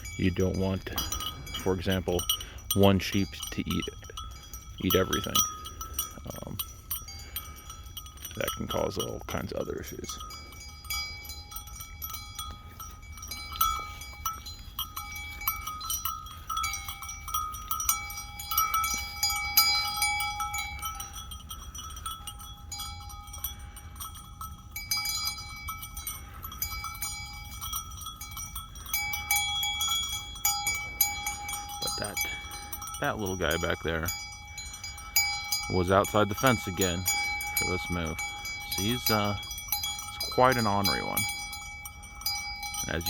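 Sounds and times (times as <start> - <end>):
metal bells ringing: 0.0 - 43.0.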